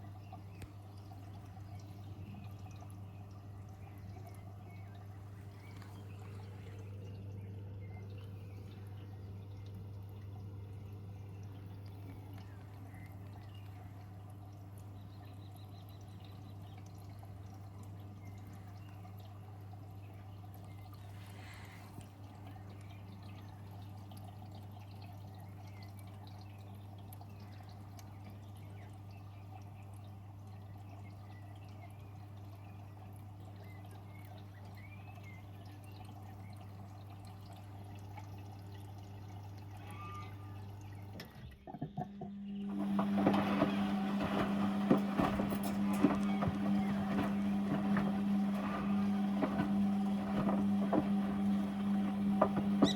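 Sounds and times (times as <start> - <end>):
water pouring into drum: 0.0 - 41.5, 42.3 - 52.9
washing machine hum: 0.0 - 52.9.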